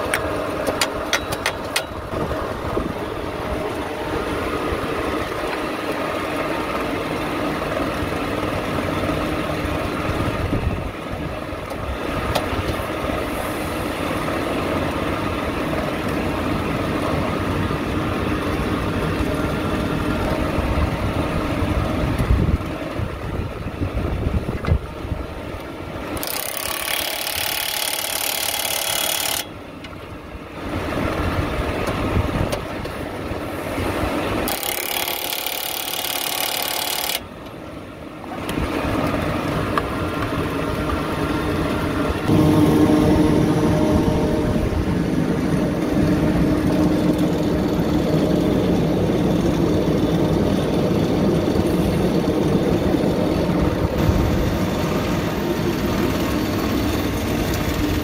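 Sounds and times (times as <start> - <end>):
belt conveyor machinery running: 0.0 - 58.0.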